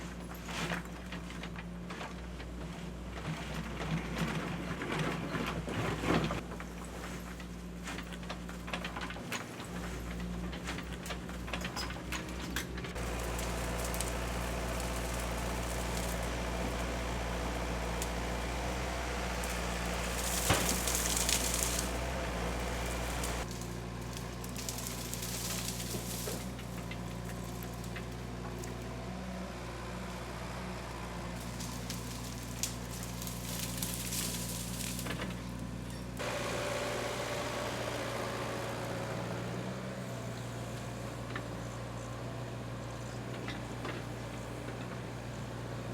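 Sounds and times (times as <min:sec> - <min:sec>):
diesel engine running: 0:00.1 - 0:45.9.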